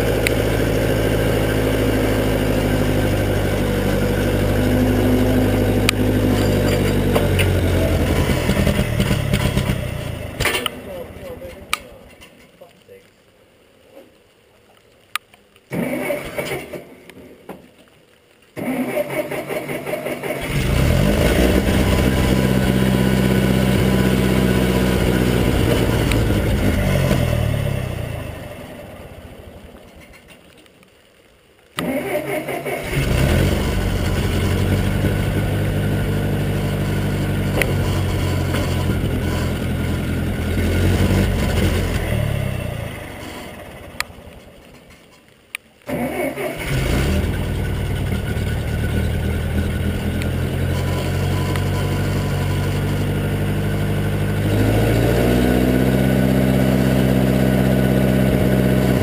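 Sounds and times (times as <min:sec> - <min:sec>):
tractor engine running: 0:00.0 - 0:12.2, 0:18.6 - 0:30.3, 0:31.8 - 0:45.0, 0:45.9 - 0:59.0
tractor engine cranking: 0:00.0 - 0:12.6, 0:15.7 - 0:17.3, 0:18.6 - 0:29.2, 0:31.8 - 0:45.2, 0:45.9 - 0:59.0.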